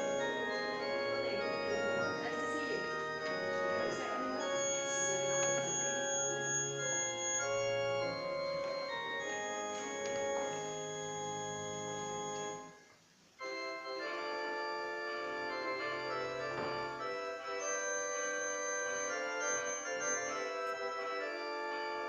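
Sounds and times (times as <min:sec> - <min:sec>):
church organ playing chords: 0:00.0 - 0:22.0.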